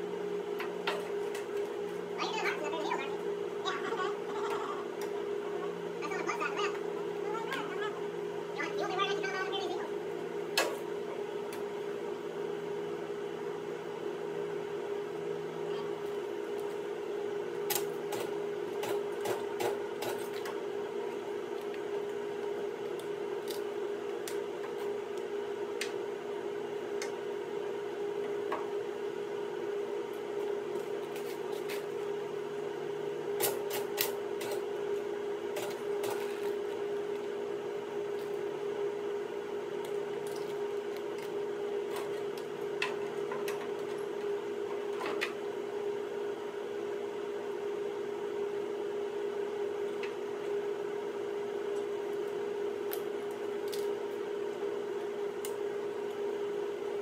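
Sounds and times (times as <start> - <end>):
arc welding hum and crackles: 0.0 - 57.0.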